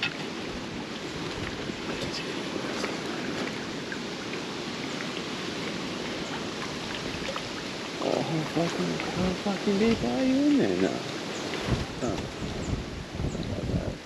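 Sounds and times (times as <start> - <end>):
wind blowing over microphone: 0.0 - 14.0.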